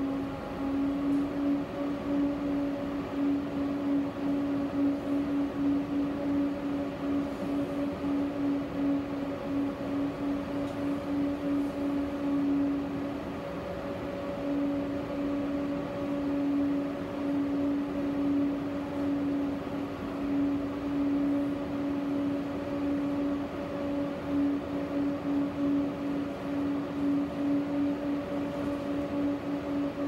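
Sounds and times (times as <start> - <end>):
electric hum: 0.0 - 30.0
tram running noise: 0.0 - 30.0.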